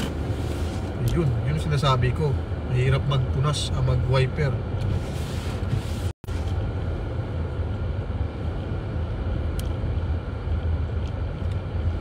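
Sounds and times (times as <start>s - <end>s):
car driving on snowy road: 0.0s - 12.0s.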